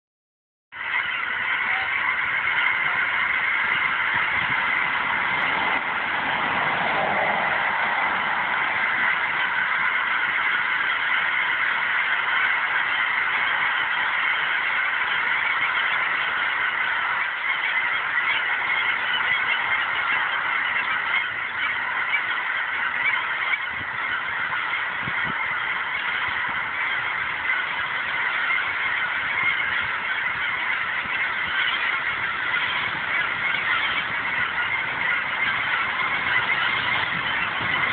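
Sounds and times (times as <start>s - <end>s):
flock of geese honking: 0.7s - 37.9s.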